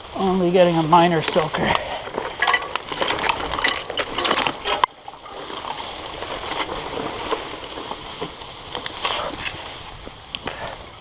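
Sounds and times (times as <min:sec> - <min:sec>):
tyres splashing: 0:00.0 - 0:10.8
bike tyres crackling through brush: 0:00.0 - 0:11.0.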